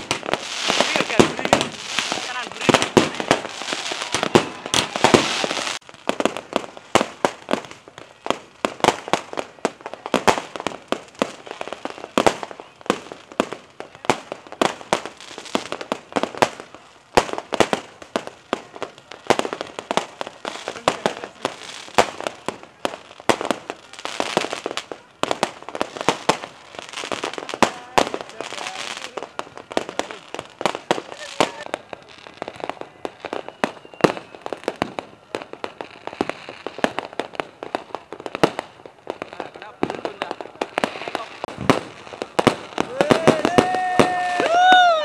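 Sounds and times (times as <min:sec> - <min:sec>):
fireworks bangs and pops: 0:00.0 - 0:45.0.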